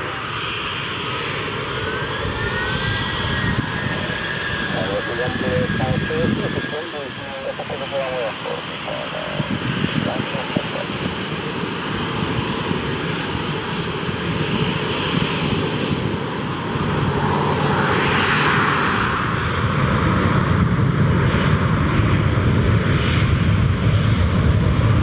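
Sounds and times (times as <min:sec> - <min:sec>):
aircraft engines running: 0:00.0 - 0:25.0.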